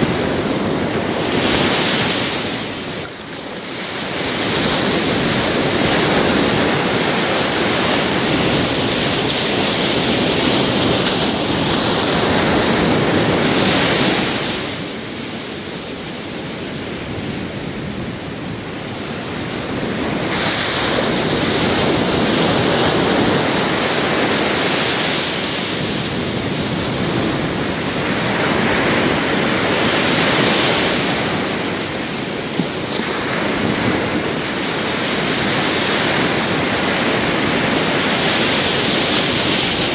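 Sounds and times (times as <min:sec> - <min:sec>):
surf breaking on beach: 0:00.0 - 0:39.9.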